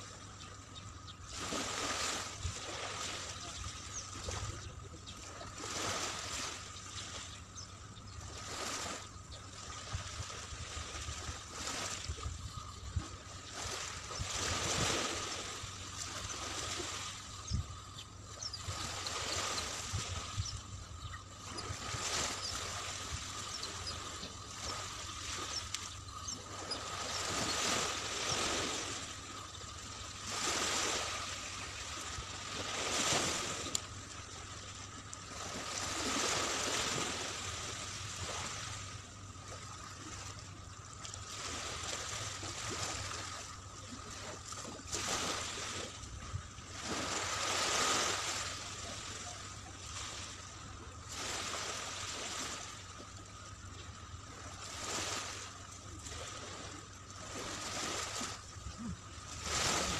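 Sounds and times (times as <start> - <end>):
waves washing onto beach: 0.0 - 59.9.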